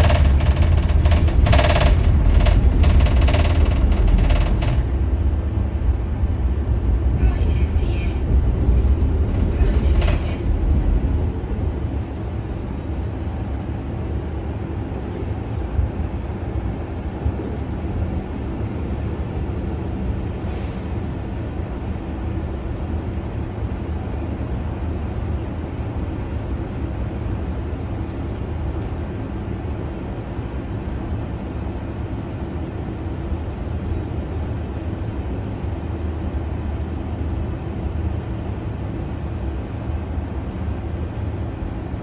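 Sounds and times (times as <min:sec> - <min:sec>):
tram rumbling on rails: 0:00.0 - 0:42.0.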